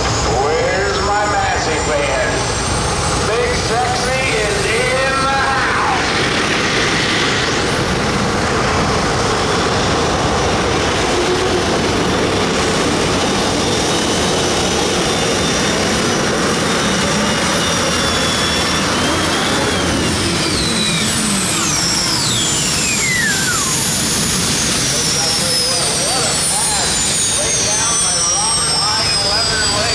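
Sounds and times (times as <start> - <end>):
high whine falling in pitch: 0.0 - 29.9
tractor engine at full power: 0.0 - 29.9.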